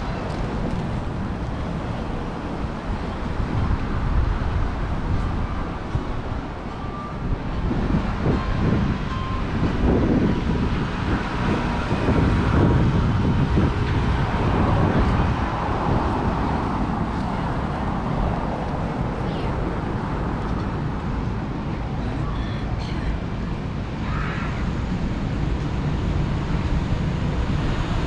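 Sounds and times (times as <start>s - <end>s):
traffic rumble: 0.0s - 28.0s
wind buffeting microphone: 0.0s - 28.0s.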